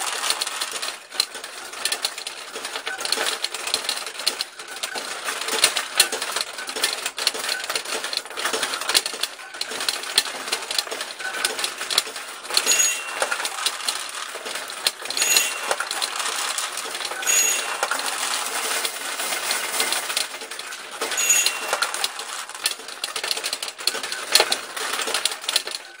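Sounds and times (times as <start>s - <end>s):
steel balls clattering through machine: 0.0s - 26.0s.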